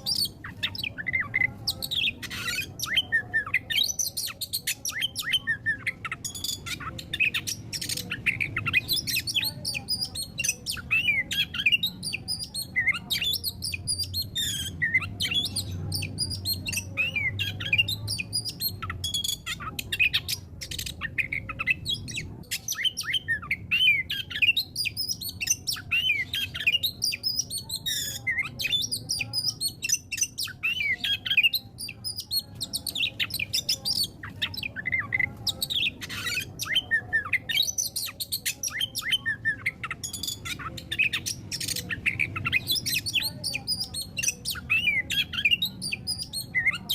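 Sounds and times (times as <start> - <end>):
songbird chirping and trilling: 0.0 - 46.9.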